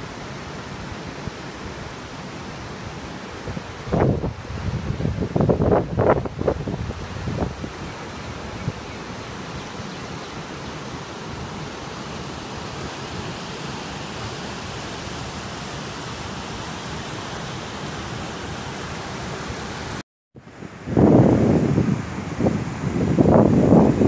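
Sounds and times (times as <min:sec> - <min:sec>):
waterfall and river rushing: 0:00.0 - 0:20.0, 0:20.6 - 0:24.0.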